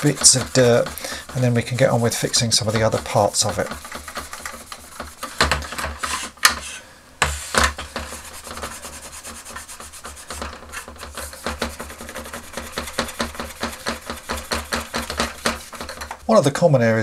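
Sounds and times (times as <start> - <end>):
towel rubbing on hard plastic: 0.0 - 16.2.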